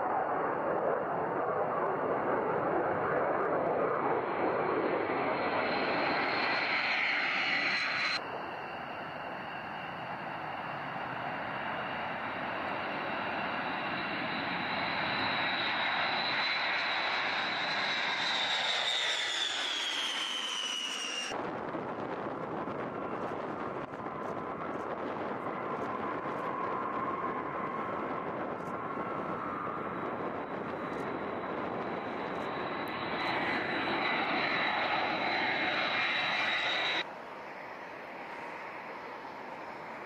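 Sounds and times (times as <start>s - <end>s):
jet roar with high whine: 0.0s - 40.0s.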